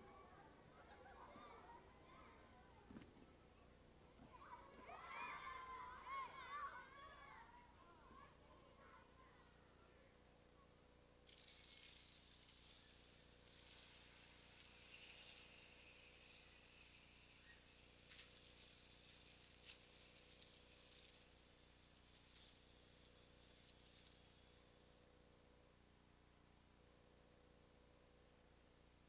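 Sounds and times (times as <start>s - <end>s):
faint hissing rustles: 0.0s - 25.9s, 28.5s - 29.0s
faint steady hum: 0.0s - 29.0s.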